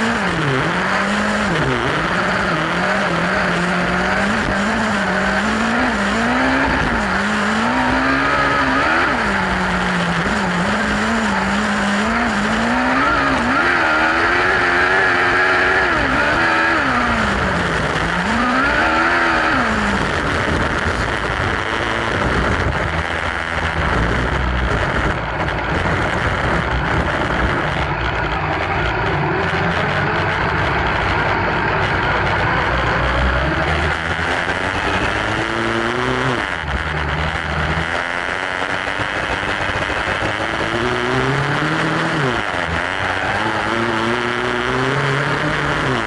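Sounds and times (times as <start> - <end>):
motorcycle engine revving: 0.0 - 46.0
tyres on loose dirt: 0.0 - 46.0.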